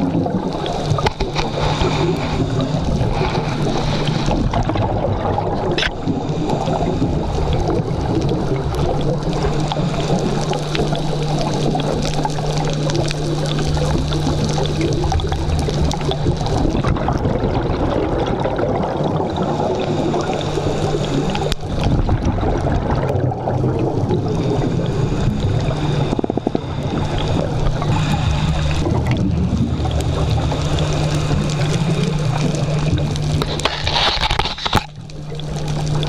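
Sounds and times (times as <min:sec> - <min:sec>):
steady low hum: 0:00.0 - 0:36.0
underwater gurgling and bubbling: 0:00.0 - 0:36.0.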